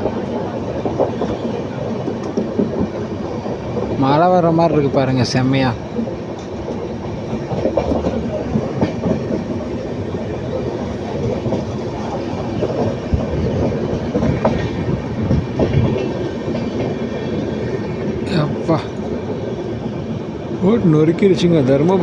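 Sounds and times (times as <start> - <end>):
train rumbling: 0.0 - 22.0
train wheels clattering on track: 0.0 - 22.0.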